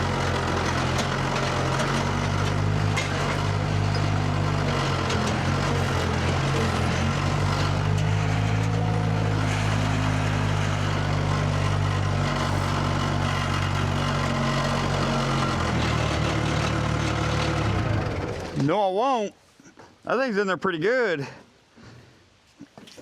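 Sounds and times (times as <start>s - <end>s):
skid steer engine running: 0.0s - 18.7s.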